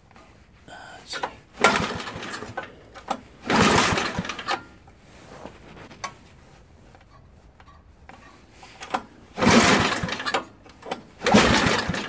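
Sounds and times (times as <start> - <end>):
recoil starter rope pulls: 1.2 - 6.2, 7.0 - 12.0.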